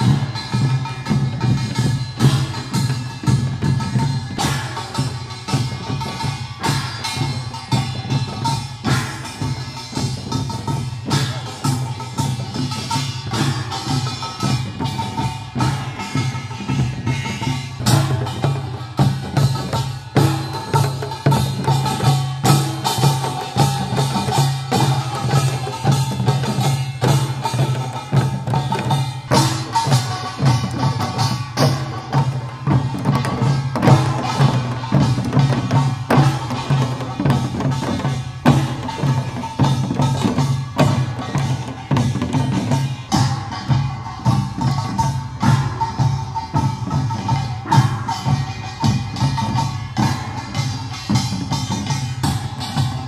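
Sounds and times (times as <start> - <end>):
barrel drums beating: 0.0 - 53.0
metal gongs beaten: 0.0 - 53.0.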